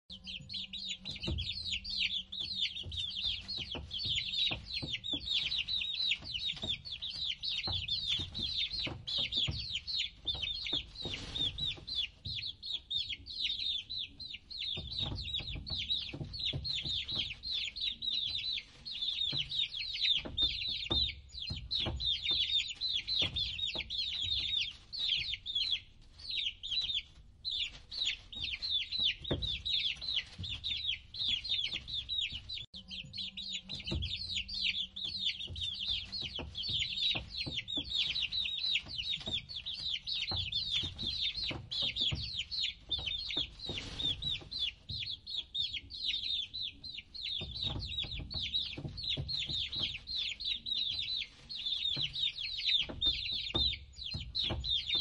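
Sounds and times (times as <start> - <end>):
baby chicks peeping: 0.0 - 55.0.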